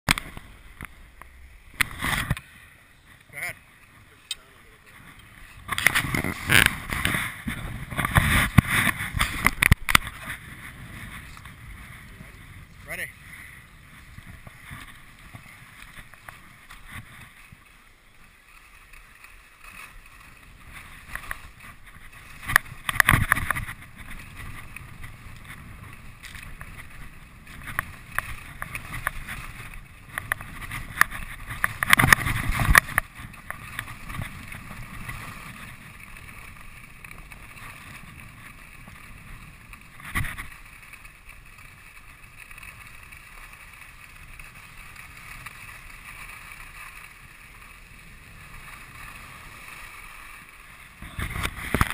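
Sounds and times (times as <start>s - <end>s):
skis sliding over snow: 0.1s - 51.9s.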